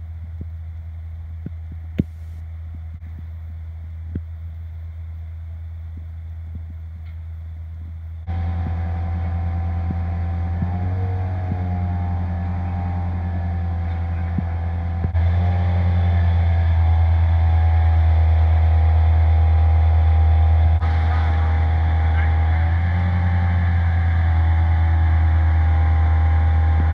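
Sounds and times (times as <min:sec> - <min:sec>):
engine running: 0:00.0 - 0:26.9.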